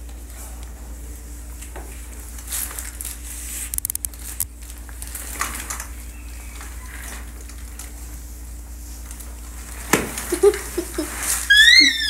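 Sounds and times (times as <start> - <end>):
crackly rustling and crinkling: 0.0 - 11.5.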